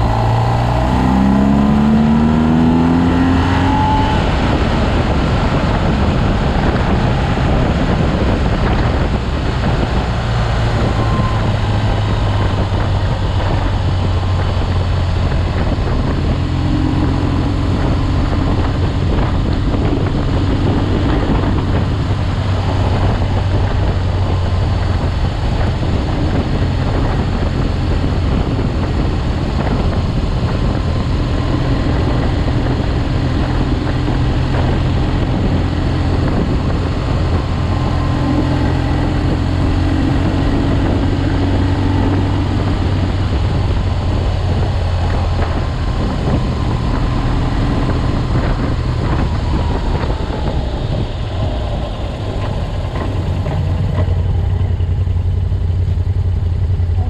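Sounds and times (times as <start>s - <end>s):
motorcycle engine running steadily: 0.0s - 57.0s
wind and road noise: 0.0s - 57.0s.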